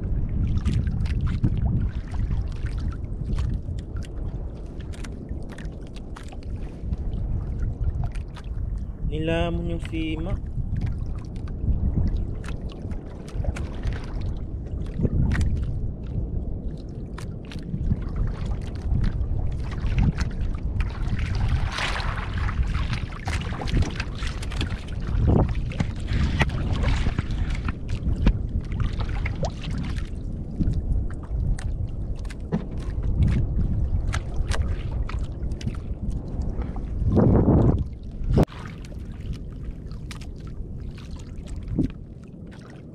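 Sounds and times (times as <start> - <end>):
water lapping against boat hull: 0.0 - 42.9
wind buffeting microphone: 0.0 - 42.9.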